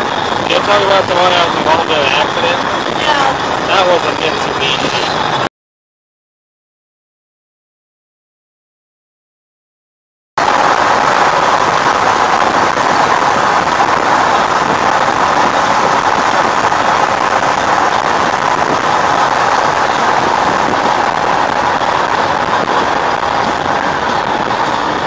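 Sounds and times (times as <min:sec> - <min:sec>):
car road and wind noise: 0:00.0 - 0:05.5, 0:10.4 - 0:25.0.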